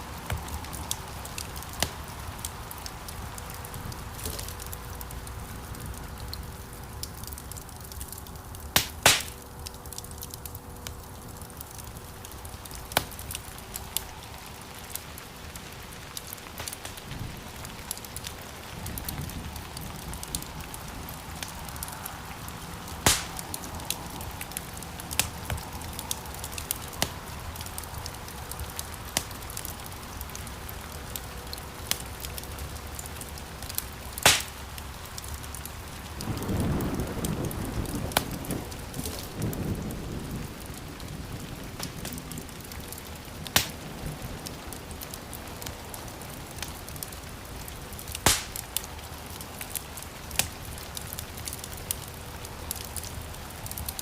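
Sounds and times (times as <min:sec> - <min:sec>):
rushing flame: 0:00.0 - 0:30.8, 0:36.0 - 0:54.0
wood fire crackling and popping: 0:00.0 - 0:54.0.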